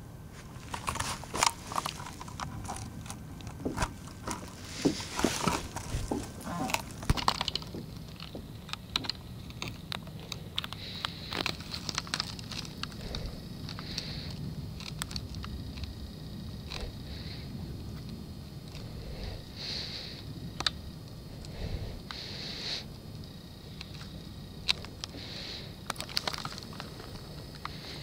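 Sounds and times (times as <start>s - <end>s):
dry needle litter crackling: 0.0s - 28.0s.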